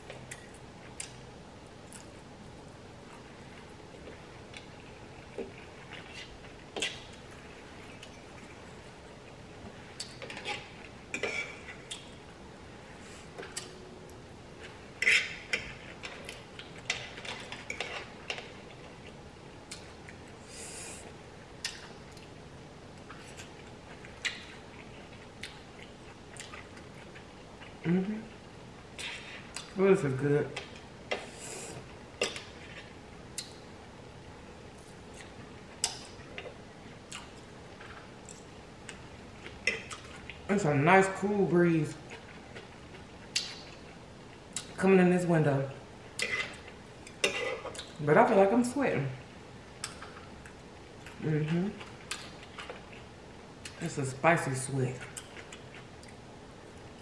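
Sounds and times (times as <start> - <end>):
soft chewing: 0.0 - 29.8, 30.6 - 33.6, 34.7 - 40.5, 41.9 - 44.8, 46.1 - 48.0, 49.2 - 53.8, 55.0 - 57.0.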